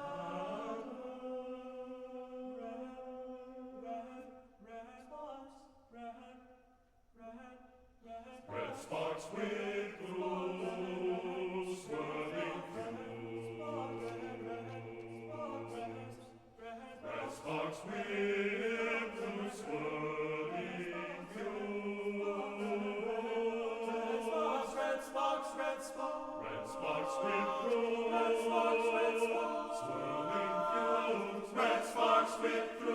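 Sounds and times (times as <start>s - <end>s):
male chorus singing in parts: 0.0s - 6.6s, 7.2s - 32.9s.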